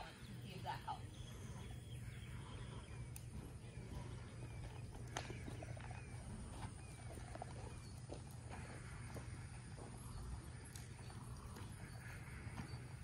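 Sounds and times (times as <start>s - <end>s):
horse hooves on soft dirt: 0.0s - 13.0s
steady low hum: 0.0s - 13.0s.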